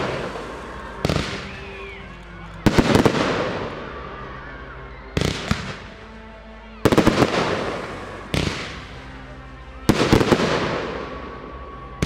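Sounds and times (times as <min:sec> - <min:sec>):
fireworks bursting: 0:00.0 - 0:04.0, 0:05.2 - 0:12.0.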